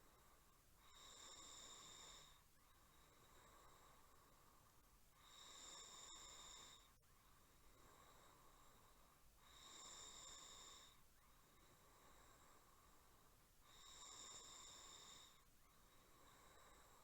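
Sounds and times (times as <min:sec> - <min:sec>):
faint snoring: 0:00.0 - 0:17.0.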